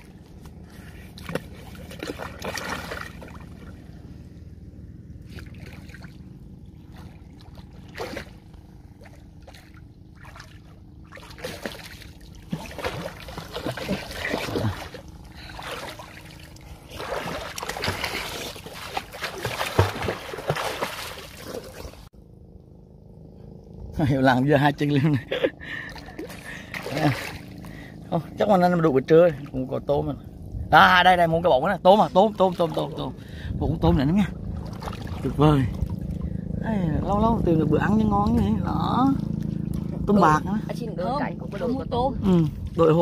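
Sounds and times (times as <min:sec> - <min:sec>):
water splashing and sloshing: 0:00.0 - 0:22.4, 0:24.8 - 0:43.0.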